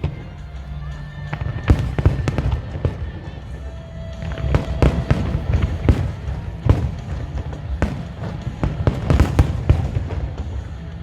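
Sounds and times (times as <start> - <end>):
constant low rumble: 0.0 - 11.0
fireworks bangs: 0.0 - 11.0.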